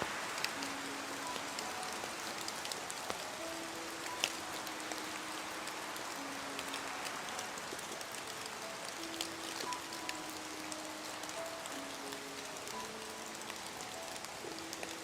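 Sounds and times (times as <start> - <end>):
heavy rain hissing: 0.0 - 15.0
soft music with held notes: 0.0 - 15.0.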